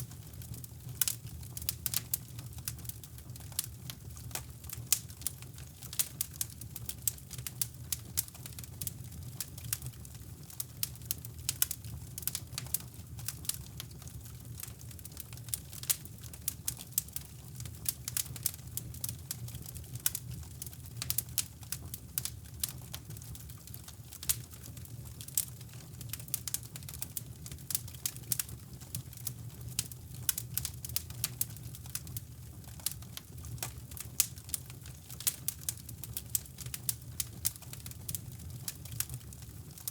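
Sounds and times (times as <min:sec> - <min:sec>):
wood fire crackling: 0:00.0 - 0:39.9
fire pops and snaps: 0:00.2 - 0:39.9.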